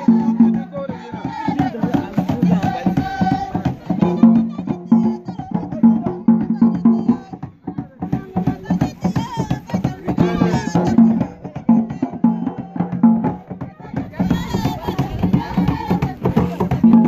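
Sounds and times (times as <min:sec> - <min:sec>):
quick percussive beats: 0:00.0 - 0:17.0
voices singing together: 0:00.0 - 0:17.0.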